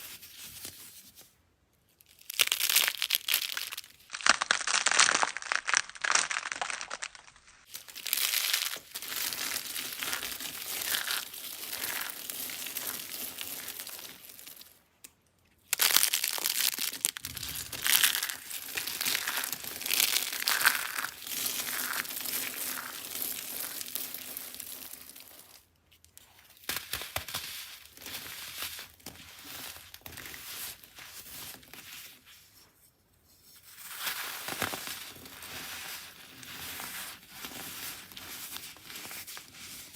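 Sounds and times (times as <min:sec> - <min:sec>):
dry soap crunching: 0:02.0 - 0:14.9, 0:15.6 - 0:32.2, 0:33.6 - 0:39.9.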